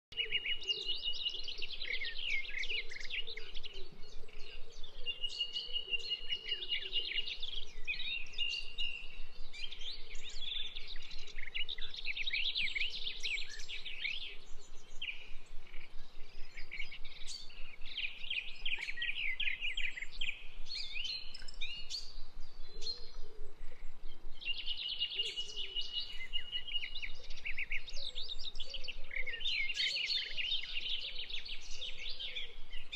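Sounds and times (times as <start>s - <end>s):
birds chirping: 0.1s - 32.9s.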